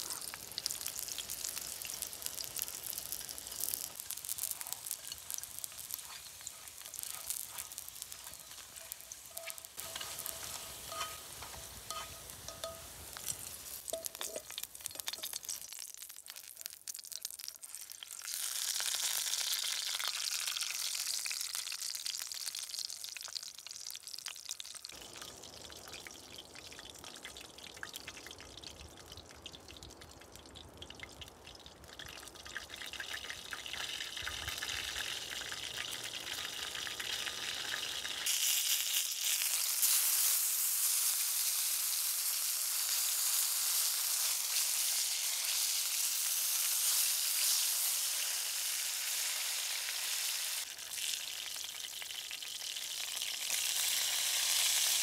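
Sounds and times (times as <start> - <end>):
sausages sizzling in a frying pan: 0.0 - 55.0.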